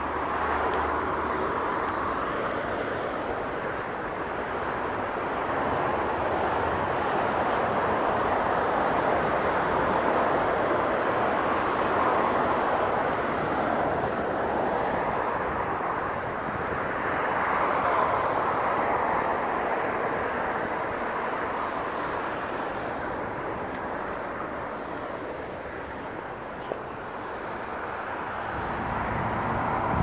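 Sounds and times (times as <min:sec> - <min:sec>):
road traffic hiss: 0:00.0 - 0:30.0.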